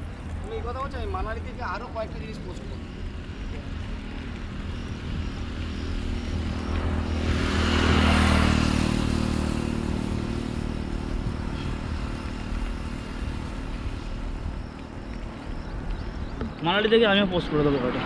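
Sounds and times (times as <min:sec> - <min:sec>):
motor vehicle passing: 0:00.0 - 0:18.0
wind and road rumble: 0:00.0 - 0:18.0.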